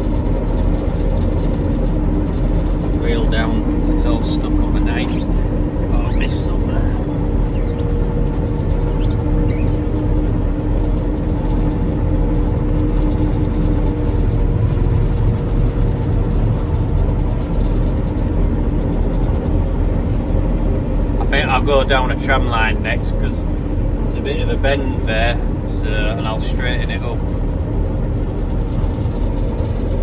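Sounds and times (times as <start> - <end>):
combine harvester drone: 0.0 - 30.0.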